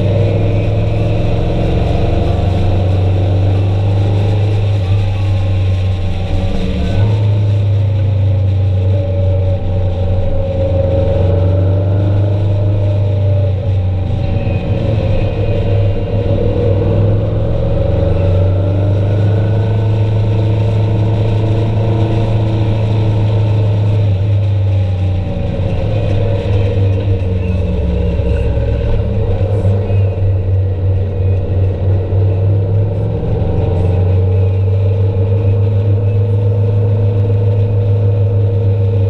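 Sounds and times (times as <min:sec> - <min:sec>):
low hum and road noise: 0:00.0 - 0:39.0
vehicle engine running: 0:00.0 - 0:39.0.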